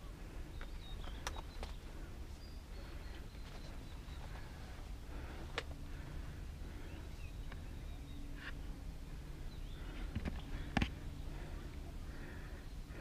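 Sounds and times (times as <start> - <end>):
faint bird calls: 0.0 - 13.0.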